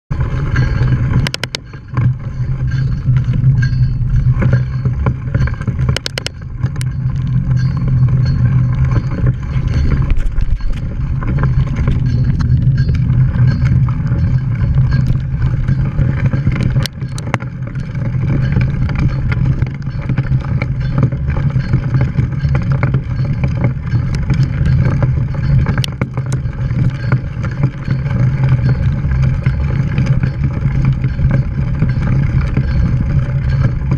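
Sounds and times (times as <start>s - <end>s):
bike knocks and rattles: 0.1s - 33.9s
tyres rumbling on dirt: 0.1s - 33.9s.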